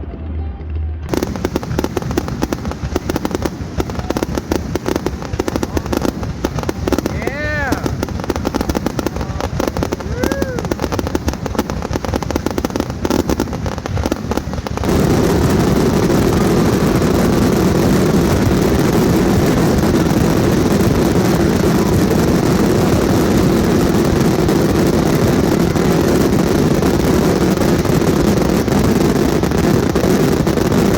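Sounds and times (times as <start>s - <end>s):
fireworks crackling and banging: 0.0s - 30.9s
rumble of many explosions: 1.1s - 30.9s.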